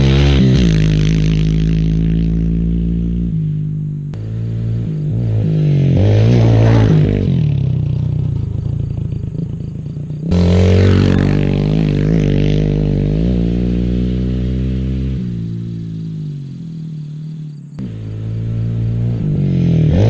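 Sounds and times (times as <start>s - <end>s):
small motorbike engine revving: 0.0s - 3.3s, 4.2s - 20.0s.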